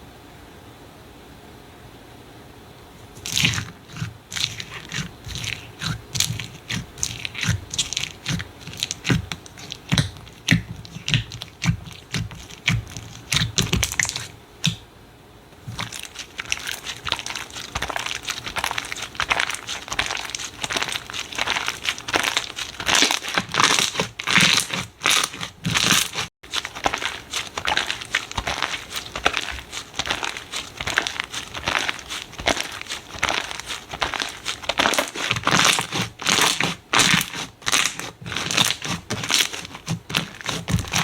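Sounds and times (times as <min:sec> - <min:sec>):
slime crackling and popping: 0:03.2 - 0:14.8, 0:15.6 - 0:41.0.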